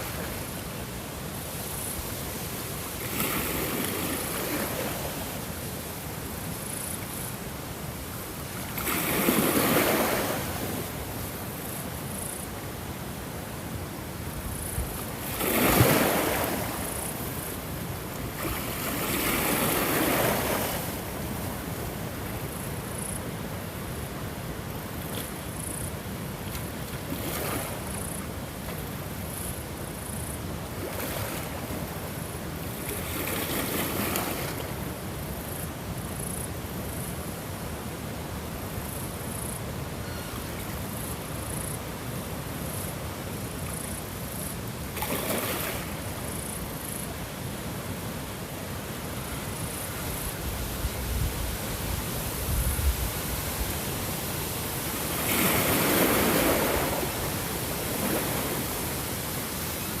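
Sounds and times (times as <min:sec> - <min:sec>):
ocean waves breaking on shore: 0:00.0 - 0:37.1, 0:37.8 - 1:00.0.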